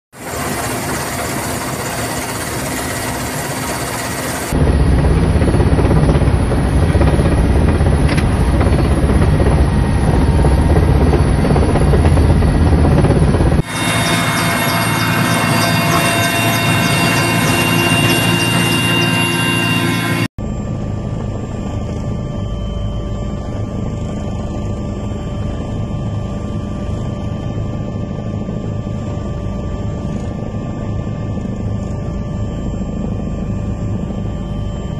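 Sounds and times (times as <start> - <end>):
thin steady whine: 0.2 - 28.6
helicopter engine and rotor drone: 0.2 - 34.9.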